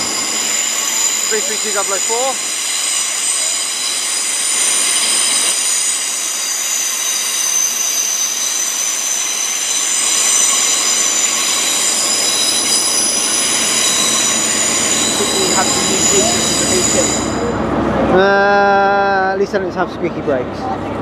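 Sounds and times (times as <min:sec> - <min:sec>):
train squealing: 0:00.0 - 0:19.7
train rumble: 0:00.0 - 0:21.0.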